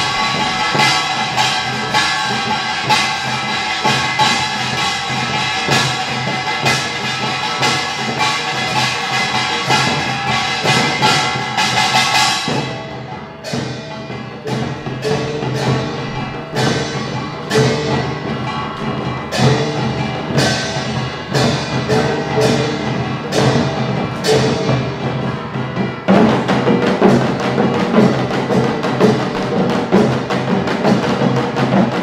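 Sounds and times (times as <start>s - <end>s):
barrel drums: 0.0s - 32.0s
hourglass drums: 0.0s - 32.0s
large gong: 0.0s - 32.0s
small brass gongs clattering: 0.0s - 32.0s.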